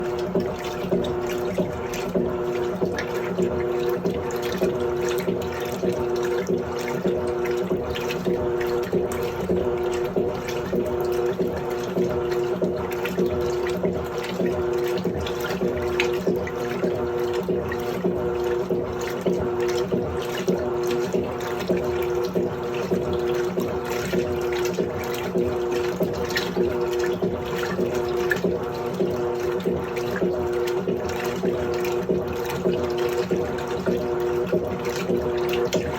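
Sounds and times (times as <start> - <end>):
washing machine pulsing hum: 0.0 - 35.9
water splashing in washing machine: 0.0 - 35.9.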